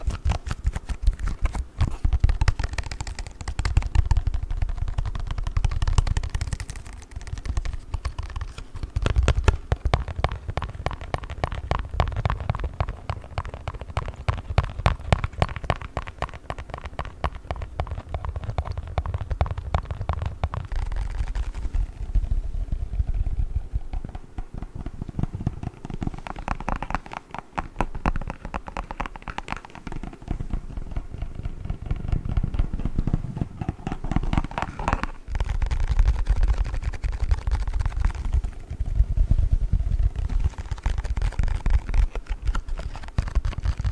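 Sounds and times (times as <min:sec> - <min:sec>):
fingertips crinkling plastic foam: 0:00.0 - 0:43.9.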